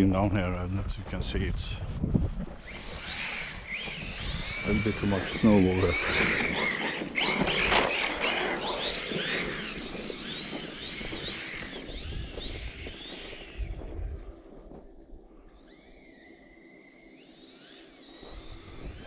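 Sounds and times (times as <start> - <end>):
electric motor whining in swoops: 2.1 - 19.0.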